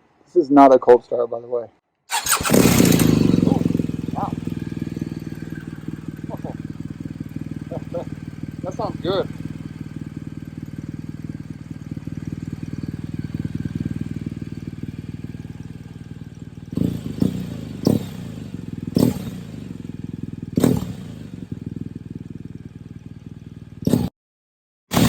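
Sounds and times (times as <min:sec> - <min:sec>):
motorcycle engine idling and revving: 0:02.1 - 0:24.2.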